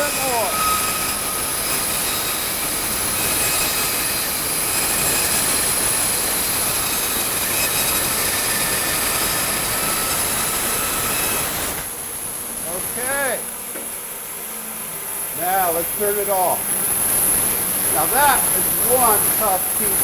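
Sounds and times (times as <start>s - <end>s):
bandsaw blade cutting wood: 0.0s - 11.9s, 15.4s - 20.0s
bandsaw motor whine: 0.0s - 20.0s.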